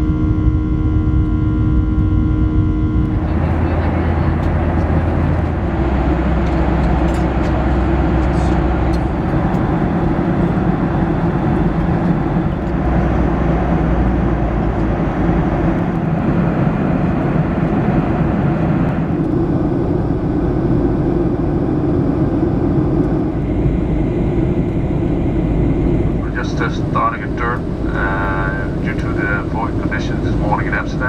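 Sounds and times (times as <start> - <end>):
airplane cabin engine noise: 0.0 - 31.0.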